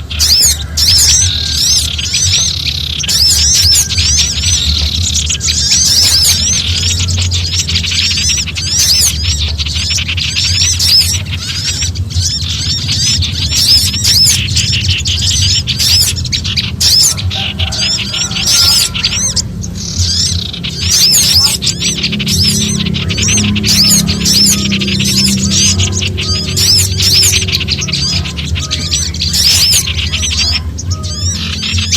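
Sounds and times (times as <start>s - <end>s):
songbirds alarm chatter: 0.0s - 31.9s
steady low hum: 0.0s - 31.9s.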